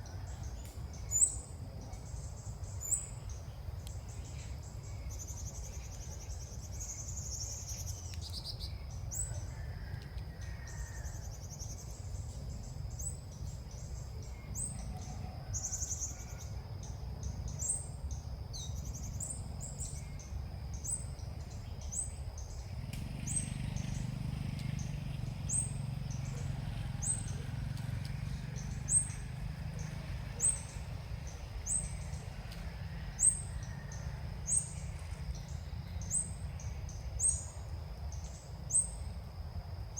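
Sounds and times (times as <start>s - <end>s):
small bird chirping: 0.0s - 39.1s.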